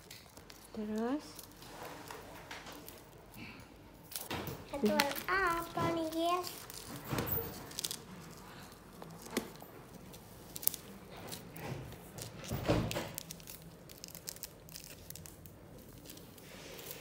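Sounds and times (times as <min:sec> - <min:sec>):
paper backing rustling: 0:00.0 - 0:17.0.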